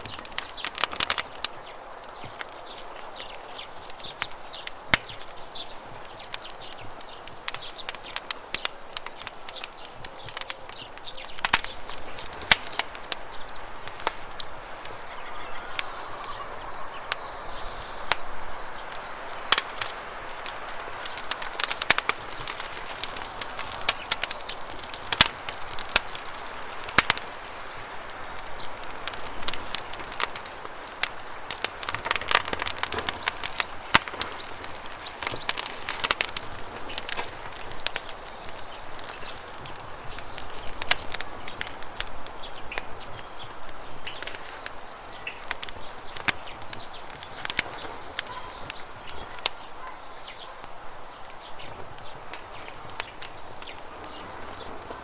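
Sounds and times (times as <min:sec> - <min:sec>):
bird chirping: 0:00.0 - 0:30.4, 0:32.0 - 0:55.0
campfire crackling and popping: 0:00.0 - 0:55.0.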